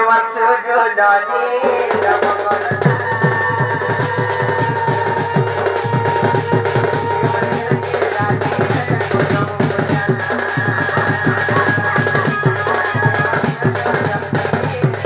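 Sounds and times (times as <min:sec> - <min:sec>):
rapid folk drumming: 0:01.6 - 0:15.0.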